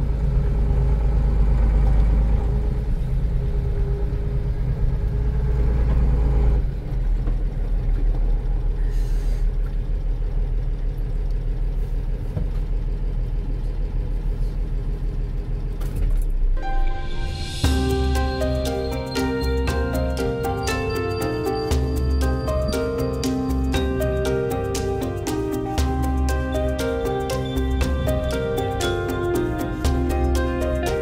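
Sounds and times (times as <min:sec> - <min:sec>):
truck diesel engine rumbling: 0:00.0 - 0:31.0.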